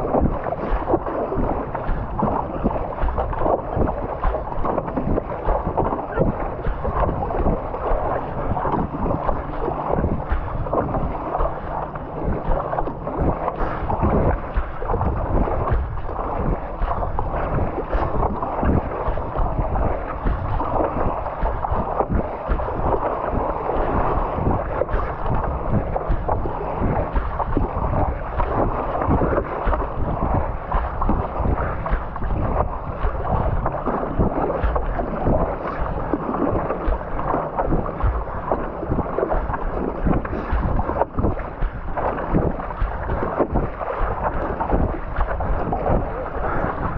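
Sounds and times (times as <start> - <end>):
water splashing and sloshing: 0.0 - 46.9
wind buffeting microphone: 0.0 - 46.9.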